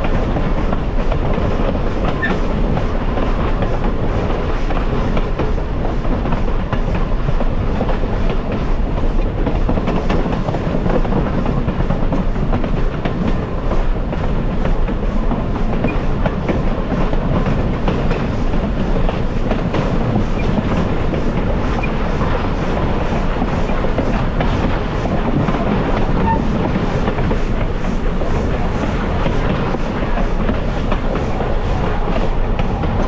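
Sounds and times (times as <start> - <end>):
train cars rumbling on track: 0.0 - 33.0
wheels clicking over rails: 0.0 - 33.0.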